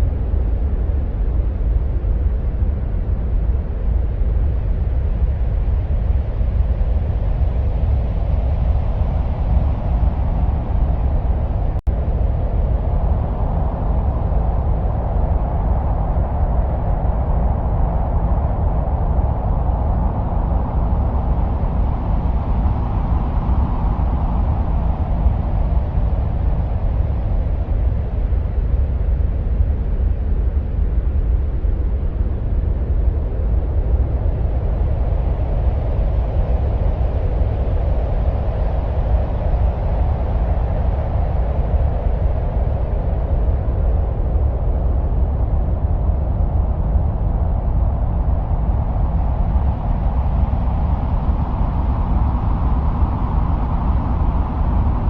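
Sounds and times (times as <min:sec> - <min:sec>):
deep rumbling wind-like noise: 0:00.0 - 0:55.0.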